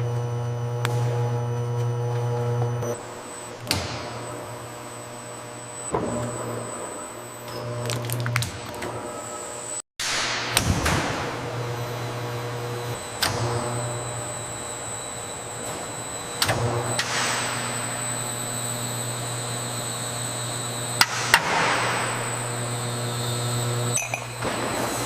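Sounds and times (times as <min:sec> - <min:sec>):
machinery humming: 0:00.0 - 0:25.0.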